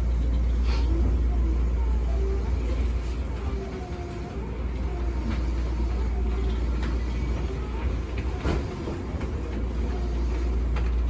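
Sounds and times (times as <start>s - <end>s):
train running gear rumble: 0.0s - 11.0s.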